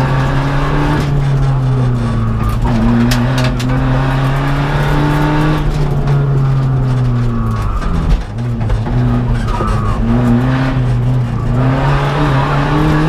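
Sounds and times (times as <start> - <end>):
rally car engine running hard: 0.0 - 13.0.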